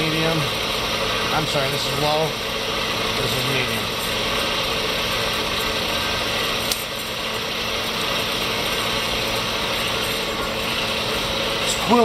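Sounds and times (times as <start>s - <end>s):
milling machine whirring: 0.0s - 12.0s.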